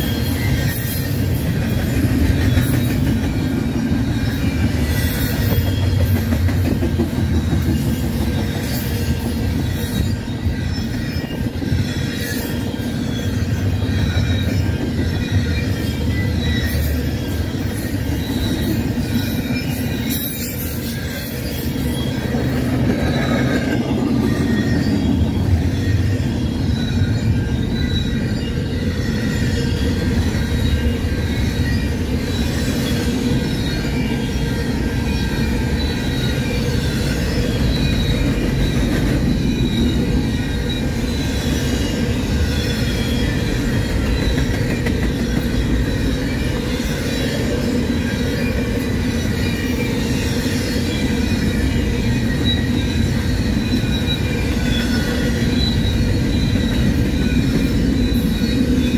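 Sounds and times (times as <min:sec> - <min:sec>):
train wheels rumbling on rail: 0:00.0 - 0:58.9
wheels squealing: 0:00.0 - 0:58.9.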